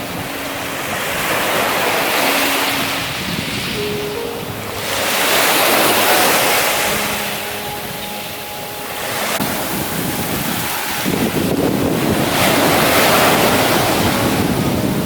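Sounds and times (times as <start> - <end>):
ocean surf on beach: 0.0 - 15.0
wind on microphone: 0.0 - 15.0.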